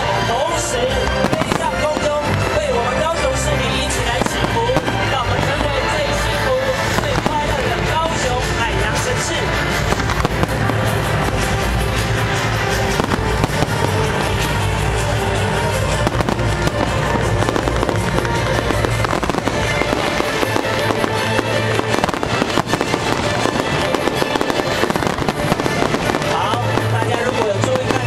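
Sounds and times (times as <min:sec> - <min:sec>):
fireworks crackling and popping: 0:00.0 - 0:28.0
music playing: 0:00.0 - 0:28.0.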